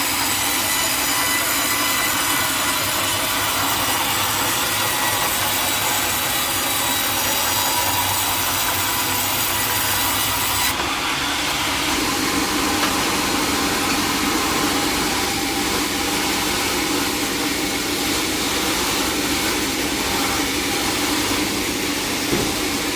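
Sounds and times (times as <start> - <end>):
saw cutting wood: 0.0 - 22.9.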